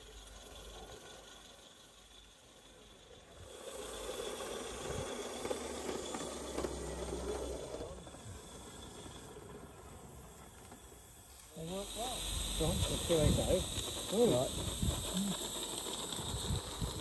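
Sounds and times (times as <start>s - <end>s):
steam hissing: 0.0s - 17.0s.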